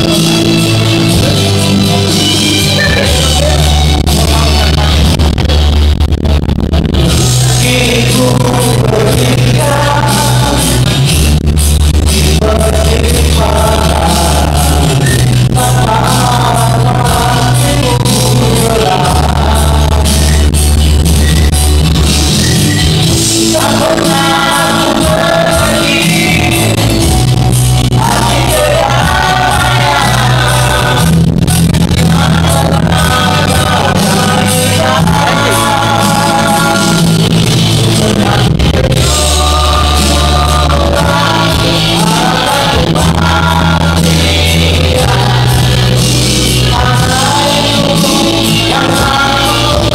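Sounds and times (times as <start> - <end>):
man singing into a microphone: 0.0 - 6.2, 6.8 - 49.9
backing track with bass notes: 0.0 - 49.9.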